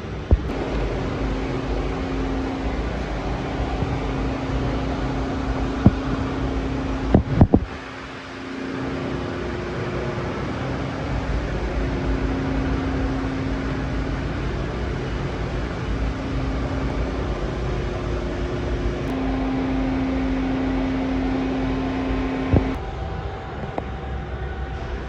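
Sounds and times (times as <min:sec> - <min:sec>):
mechanical running noise: 0:00.0 - 0:22.8
low whine: 0:00.0 - 0:25.0.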